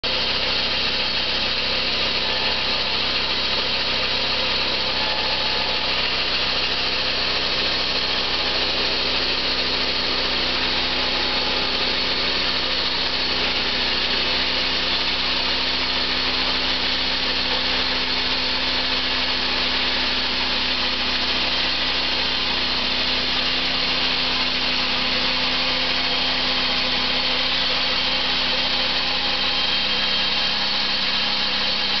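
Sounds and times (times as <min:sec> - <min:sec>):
sawmill humming and hissing: 0:00.0 - 0:32.0.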